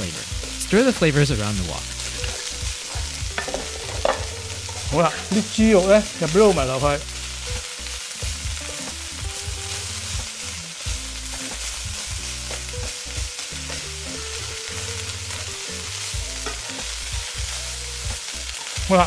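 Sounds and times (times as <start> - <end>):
meat and vegetables sizzling in wok: 0.0 - 19.0.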